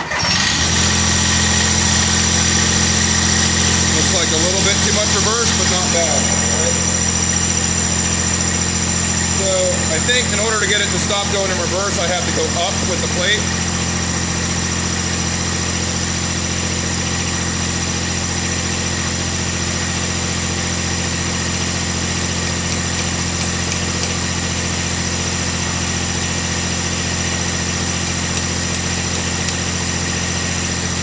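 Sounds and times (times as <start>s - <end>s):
garden tractor engine running: 0.0s - 31.0s.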